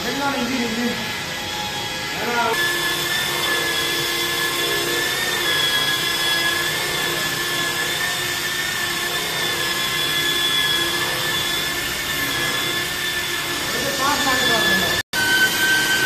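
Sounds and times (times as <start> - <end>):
electric car polisher whining: 0.0 - 16.0.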